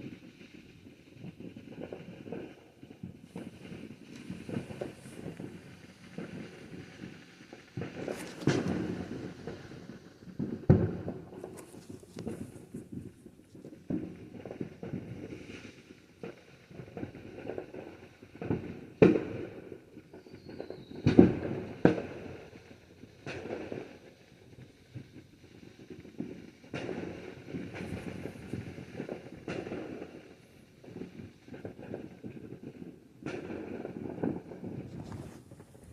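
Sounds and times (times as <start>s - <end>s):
fireworks banging: 0.0s - 25.0s, 25.9s - 35.9s.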